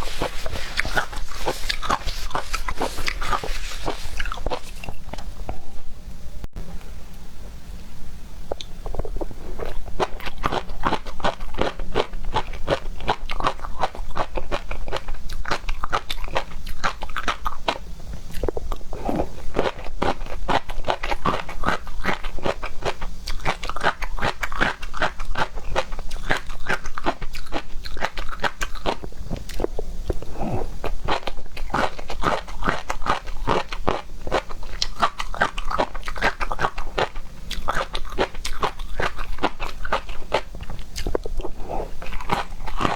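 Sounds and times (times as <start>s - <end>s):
chewing and crunching: 0.0s - 5.8s, 8.5s - 42.9s.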